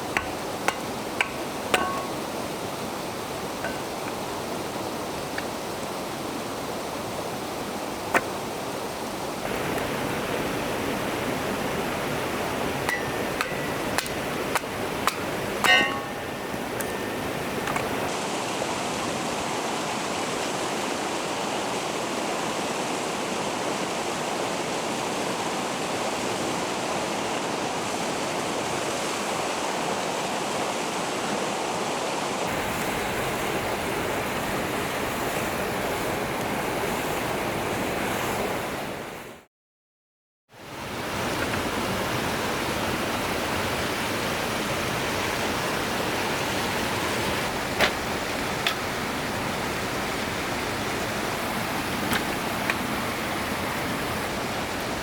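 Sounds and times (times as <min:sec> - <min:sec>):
mountain stream rushing: 0:00.0 - 0:39.4, 0:40.6 - 0:55.0.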